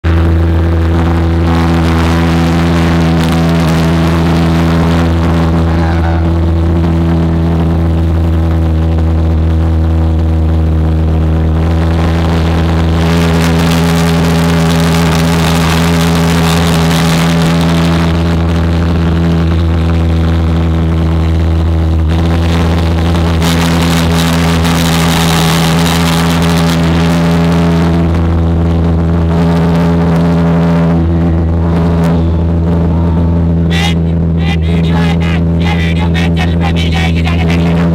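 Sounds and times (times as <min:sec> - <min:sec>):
jet engine running: 0:00.0 - 0:37.9.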